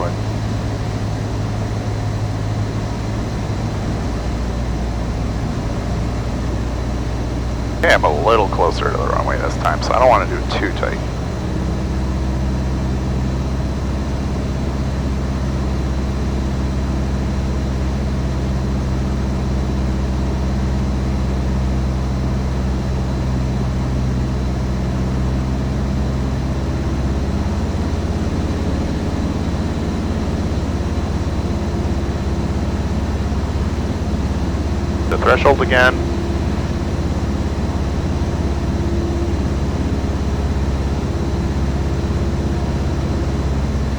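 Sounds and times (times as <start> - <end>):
light aircraft engine droning: 0.0 - 43.9.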